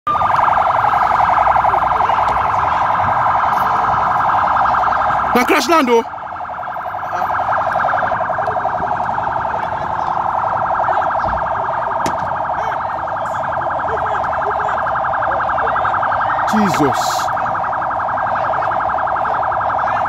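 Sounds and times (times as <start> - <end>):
electronic alarm warbling: 0.1 - 20.0.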